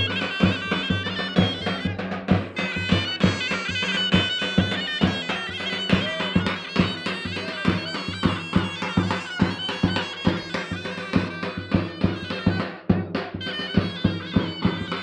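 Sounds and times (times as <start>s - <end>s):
shrill reed wind instrument melody: 0.0s - 15.0s.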